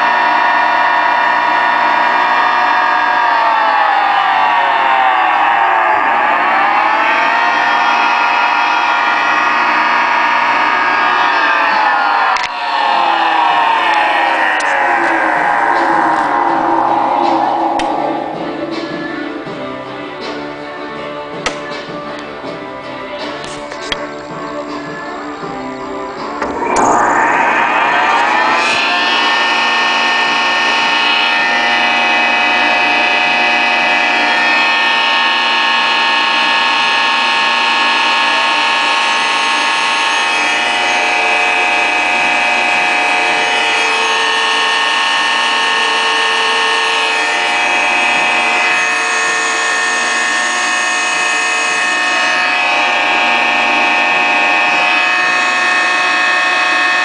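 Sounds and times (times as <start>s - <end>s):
electric motors whining: 0.0s - 20.5s, 25.2s - 57.0s.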